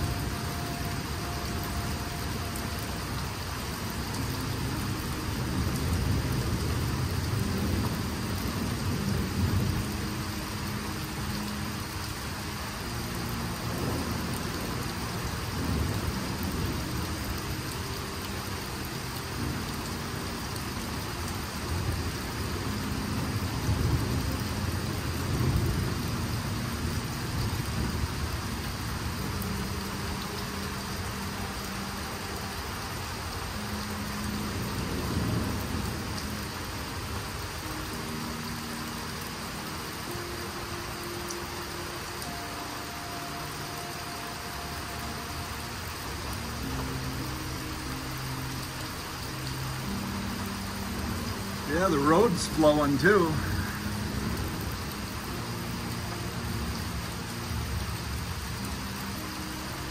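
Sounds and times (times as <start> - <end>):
rain falling on trees: 0.0 - 59.9.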